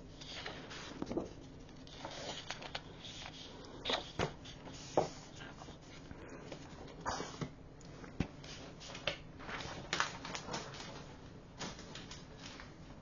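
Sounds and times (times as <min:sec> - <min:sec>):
paper sheets rustling: 0:00.2 - 0:06.1, 0:08.5 - 0:13.0.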